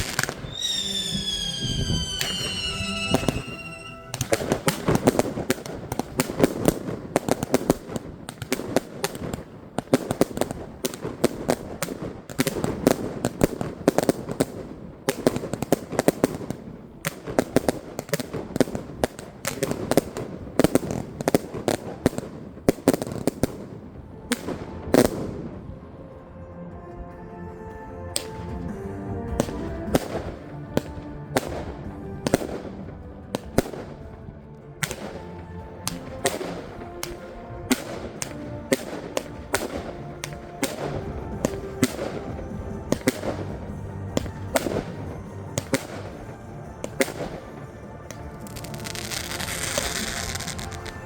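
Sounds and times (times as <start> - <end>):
fireworks banging: 0.0 - 26.0, 28.2 - 51.0.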